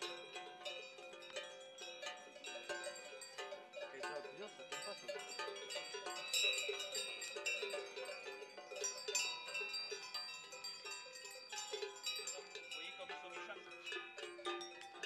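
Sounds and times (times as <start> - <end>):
cattle bells clanking: 0.0 - 15.0.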